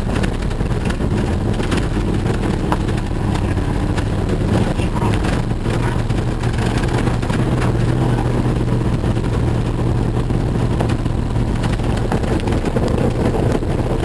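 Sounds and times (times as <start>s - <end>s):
car engine running: 0.0s - 14.0s
knocks and rattles: 0.0s - 14.0s.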